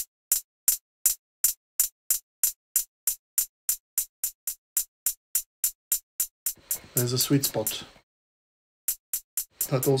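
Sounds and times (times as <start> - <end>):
electronic hi-hat loop: 0.0 - 7.9, 8.9 - 10.0.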